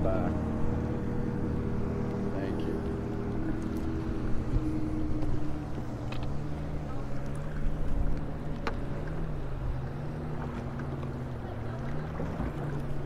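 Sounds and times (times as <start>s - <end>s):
electric trolling motor humming: 0.0s - 13.0s
water noise: 0.0s - 13.0s
wind: 0.0s - 13.0s.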